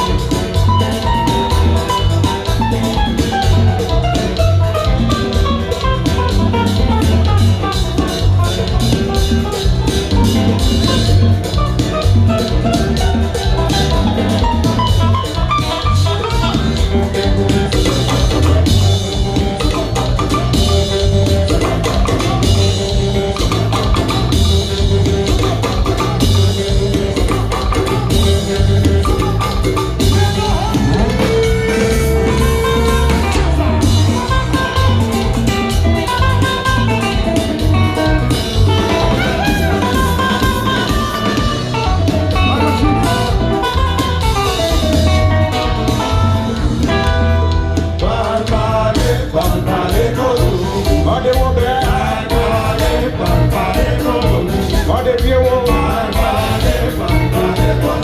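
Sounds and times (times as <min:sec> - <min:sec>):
guitar: 0:00.0 - 0:58.0
melodic keyboard lines: 0:00.0 - 0:58.0
steady drum beat: 0:00.0 - 0:58.0.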